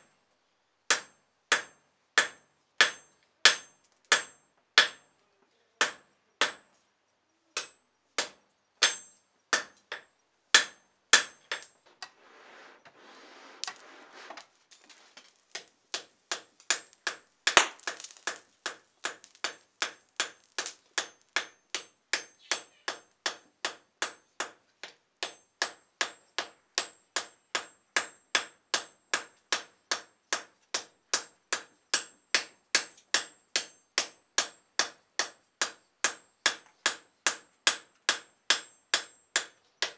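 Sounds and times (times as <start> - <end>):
hammer striking steel on anvil: 0.9 - 5.1, 5.8 - 6.7, 7.6 - 11.7, 15.9 - 24.6, 25.2 - 39.5.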